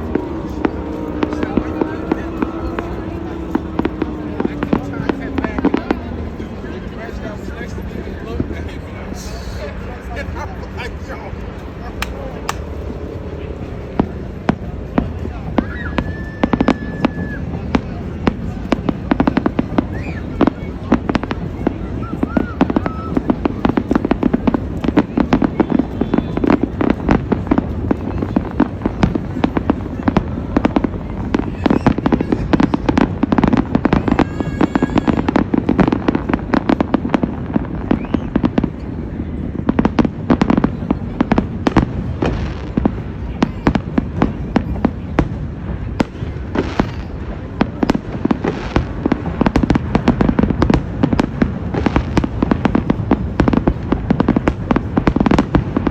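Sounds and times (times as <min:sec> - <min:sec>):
fireworks bursts and crackle: 0:00.0 - 0:55.9.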